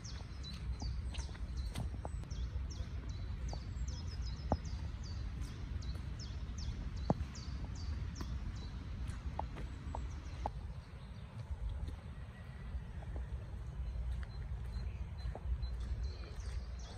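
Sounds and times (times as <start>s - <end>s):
low outdoor rumble: 0.0s - 16.9s
small birds chirping: 0.0s - 16.9s.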